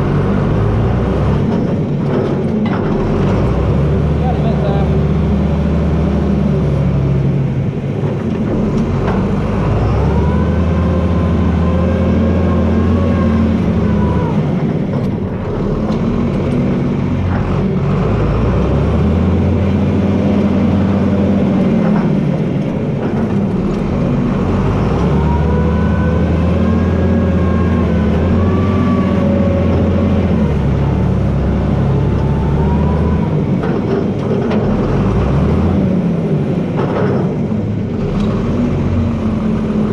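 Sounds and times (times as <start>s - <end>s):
high engine whine: 0.0s - 39.9s
tractor diesel engine running hard: 0.0s - 39.9s.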